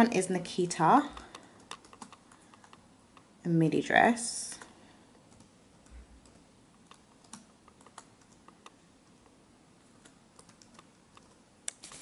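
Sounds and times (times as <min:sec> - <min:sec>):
keyboard typing: 0:01.0 - 0:03.3, 0:04.5 - 0:12.0.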